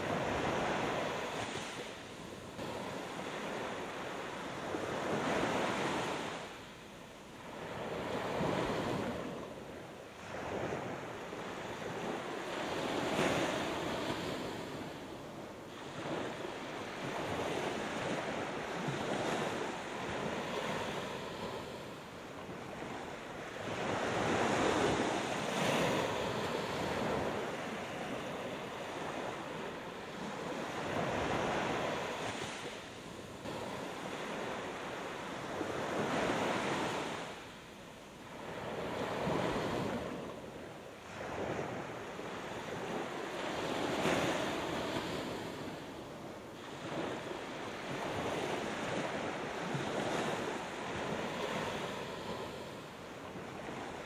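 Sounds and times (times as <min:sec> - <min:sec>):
small waves breaking on sand: 0:00.0 - 0:06.7, 0:07.3 - 0:54.0.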